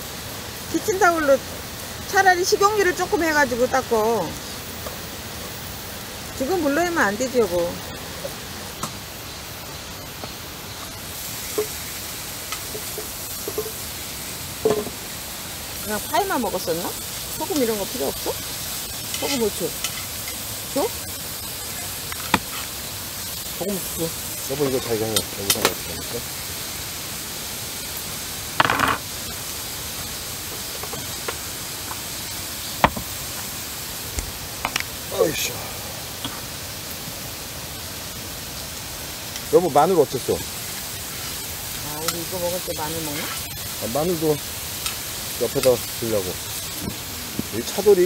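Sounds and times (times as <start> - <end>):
meat sizzling in a frying pan: 0.0 - 48.0.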